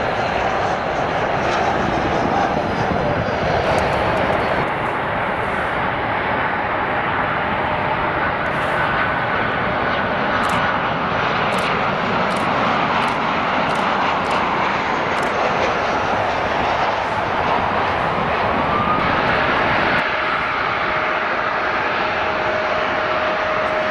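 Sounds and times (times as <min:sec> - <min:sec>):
faint jet whine: 0:00.0 - 0:23.9
jet engines rushing: 0:00.0 - 0:23.9.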